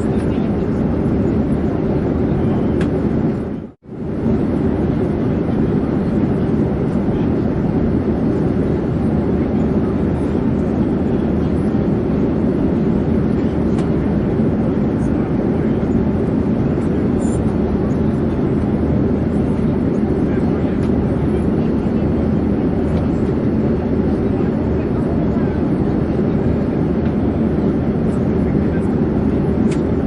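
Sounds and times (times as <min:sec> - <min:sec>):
airplane drone in flight: 0:00.0 - 0:30.0.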